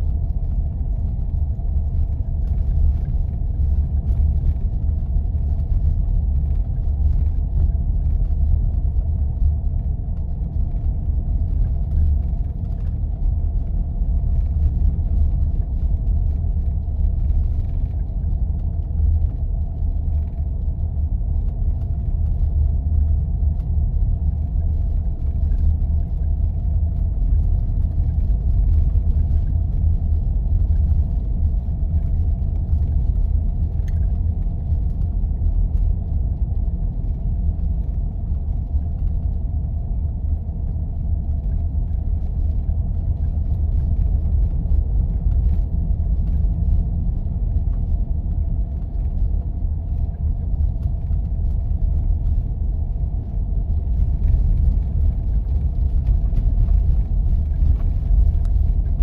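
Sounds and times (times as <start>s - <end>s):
engine and tyres rumbling: 0.0s - 59.0s
faint steady hum: 0.0s - 59.0s.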